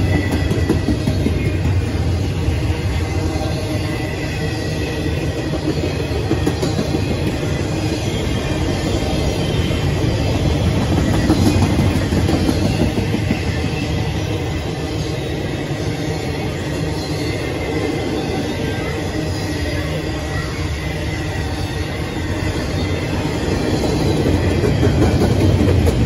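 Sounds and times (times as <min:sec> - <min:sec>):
freight cars rumbling on rails: 0:00.0 - 0:26.0.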